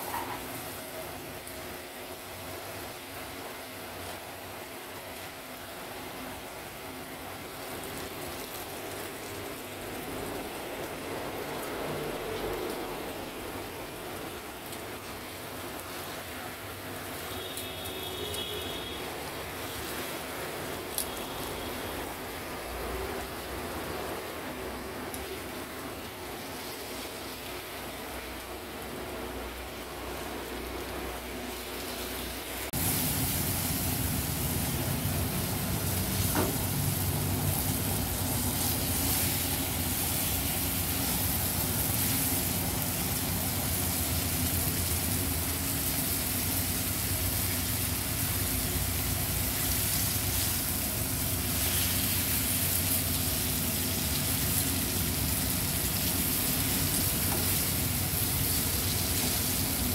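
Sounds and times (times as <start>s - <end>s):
hot oil sizzling in a frying pan: 0.0s - 59.9s.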